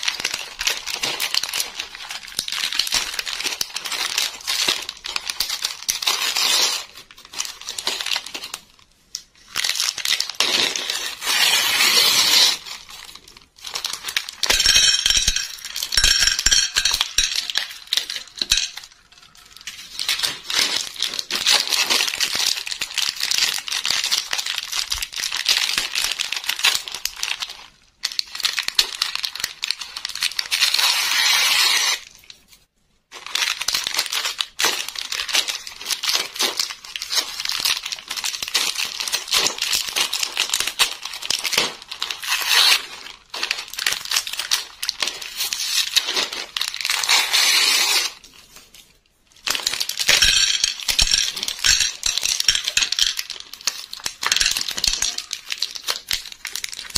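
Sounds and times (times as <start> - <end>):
plastic packaging crinkling: 0.0 - 56.9.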